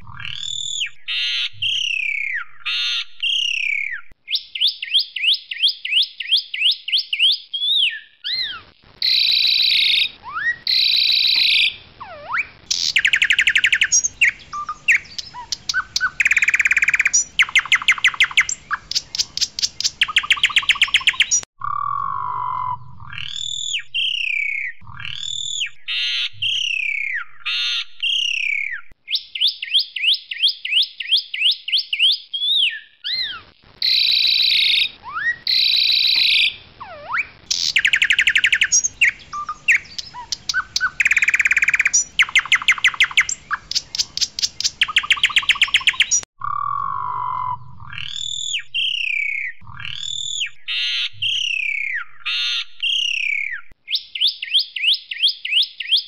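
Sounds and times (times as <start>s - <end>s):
starling singing chirps and whistles: 0.0s - 56.0s.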